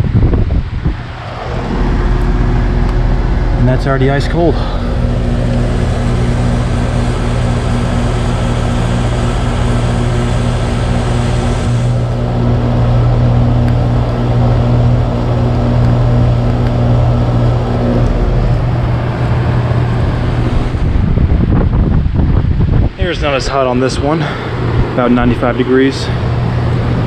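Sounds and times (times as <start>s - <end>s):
compressor hum: 0.0s - 27.0s
condenser fan rushing air: 0.0s - 27.0s.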